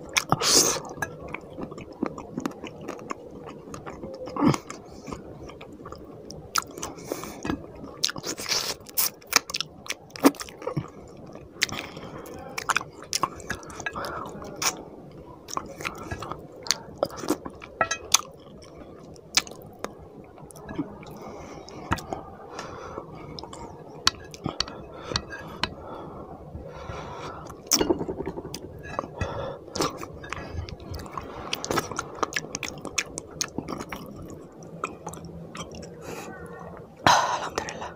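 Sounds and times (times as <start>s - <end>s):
wet chewing and smacking: 0.0s - 14.8s, 15.5s - 22.7s, 23.4s - 25.8s, 27.4s - 36.0s.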